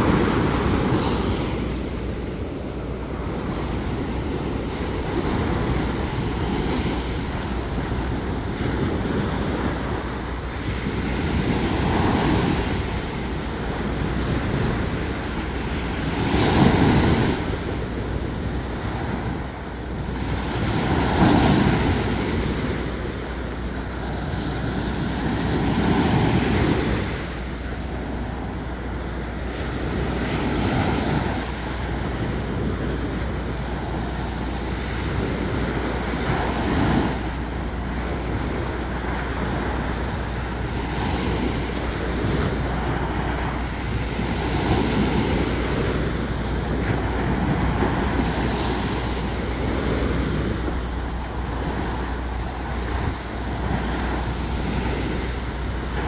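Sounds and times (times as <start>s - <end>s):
small waves breaking on beach: 0.0s - 56.0s
wind on microphone: 0.0s - 56.0s.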